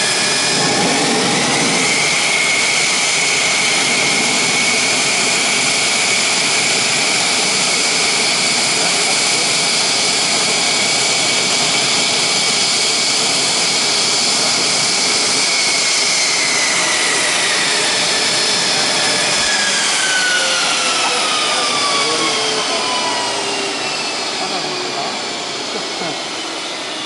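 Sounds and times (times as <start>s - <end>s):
jet engine running loud: 0.0s - 27.0s.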